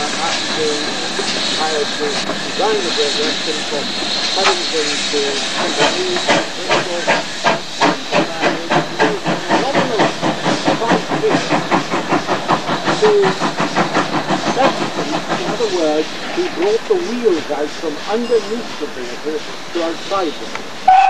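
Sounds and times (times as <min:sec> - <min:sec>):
steady steam hiss: 0:00.0 - 0:21.0
steam locomotive exhaust chuffs: 0:00.0 - 0:21.0.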